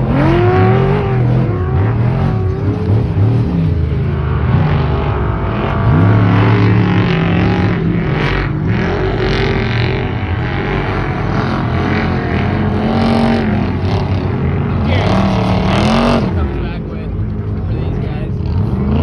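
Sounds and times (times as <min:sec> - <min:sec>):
race truck engines revving: 0:00.0 - 0:19.0.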